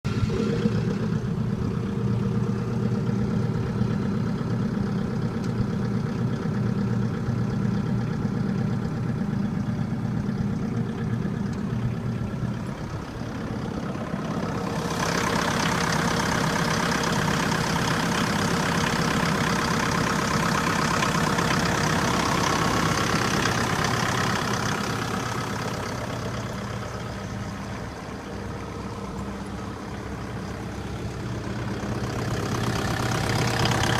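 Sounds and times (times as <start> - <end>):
generator engine hum: 0.0 - 33.9.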